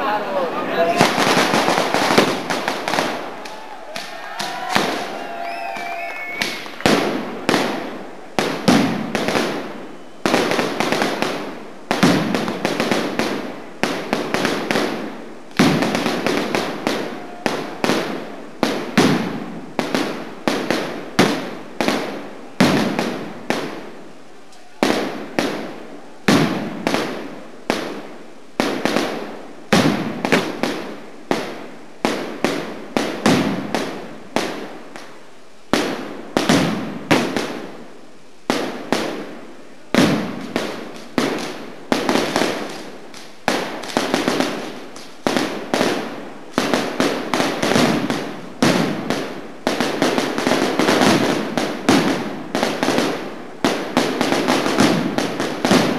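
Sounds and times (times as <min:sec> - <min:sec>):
firecrackers banging in volleys: 0:00.0 - 0:55.9.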